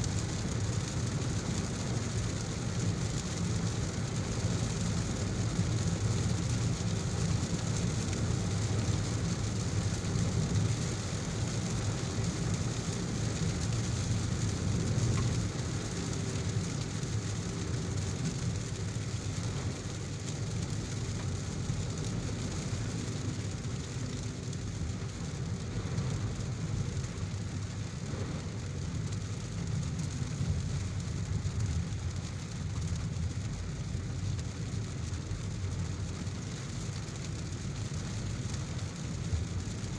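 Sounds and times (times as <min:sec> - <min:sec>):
car road and engine rumble: 0:00.0 - 0:39.9
heavy rain hiss: 0:00.0 - 0:39.9.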